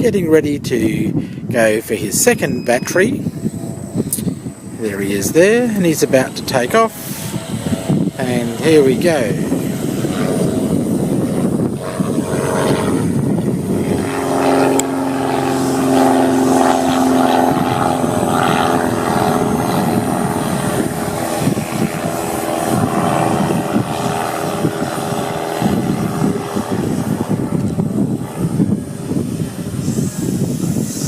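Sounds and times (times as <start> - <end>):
quadcopter propellers buzzing: 0.0 - 31.0.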